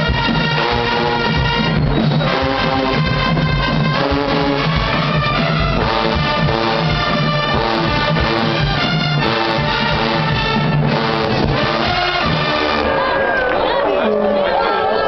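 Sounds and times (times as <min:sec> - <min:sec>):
marching band brass chords: 0:00.0 - 0:14.1.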